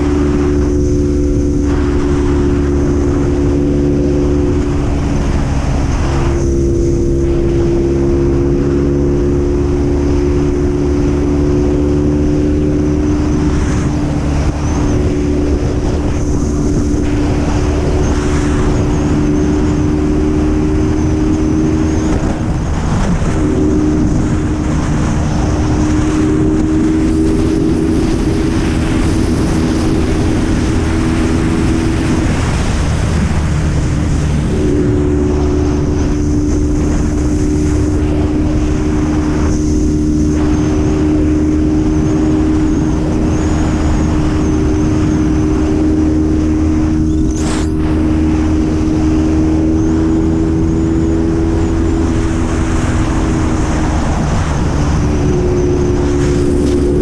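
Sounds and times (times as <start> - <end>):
motorcycle engine cruising: 0.0 - 57.0
wind rushing: 0.0 - 57.0.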